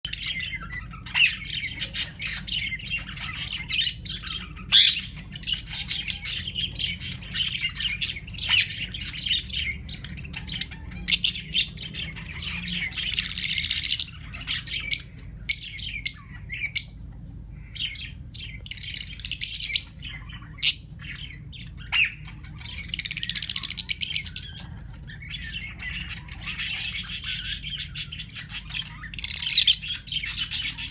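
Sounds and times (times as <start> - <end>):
lovebirds chirping and chattering: 0.0 - 30.9
parakeet squawks: 0.1 - 16.9, 18.0 - 30.9.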